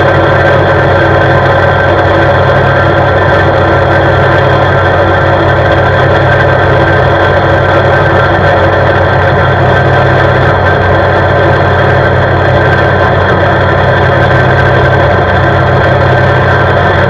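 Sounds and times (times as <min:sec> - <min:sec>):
atv engine running steadily: 0:00.0 - 0:17.0.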